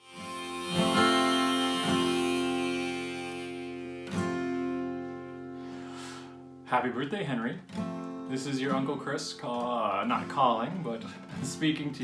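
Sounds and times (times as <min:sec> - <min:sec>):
acoustic guitar strummed chords: 0:00.0 - 0:12.0.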